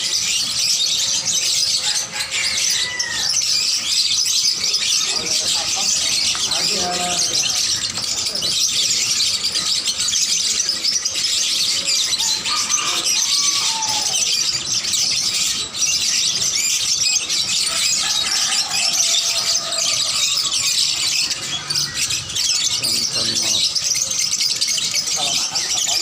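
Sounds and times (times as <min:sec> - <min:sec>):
caged small birds chattering: 0:00.0 - 0:26.0.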